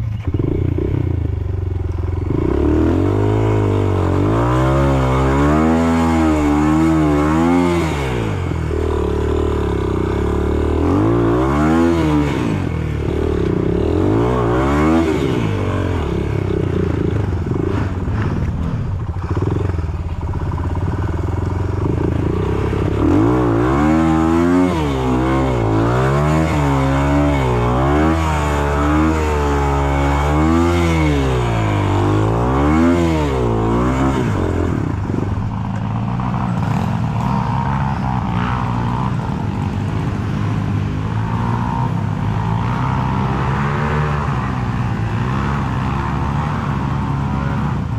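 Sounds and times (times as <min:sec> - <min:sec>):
off-road motorcycle engine revving: 0:00.0 - 0:47.9.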